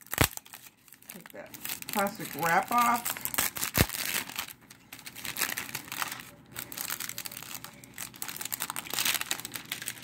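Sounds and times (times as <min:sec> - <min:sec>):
plastic shrink wrap crinkling: 0:00.0 - 0:10.0.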